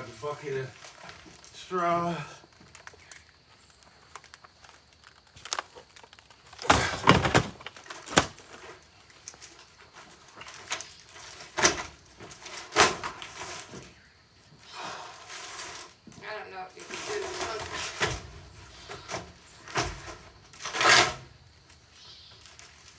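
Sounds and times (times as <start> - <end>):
scraping and handling noise: 2.5 - 14.0, 15.2 - 22.9.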